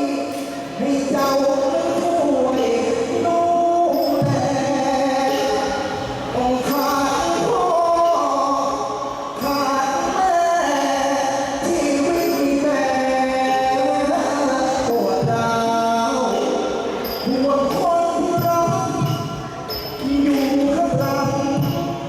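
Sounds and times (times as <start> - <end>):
person singing: 0.0 - 22.0.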